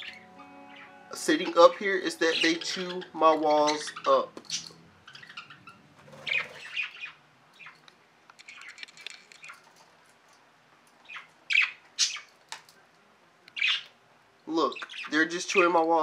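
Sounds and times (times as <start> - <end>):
budgerigars chirping and chattering: 0.0 - 9.7, 11.0 - 12.4, 13.5 - 16.0.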